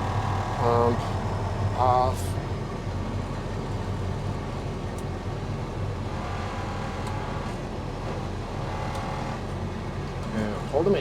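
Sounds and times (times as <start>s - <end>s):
diesel engine running in cab: 0.0s - 11.0s.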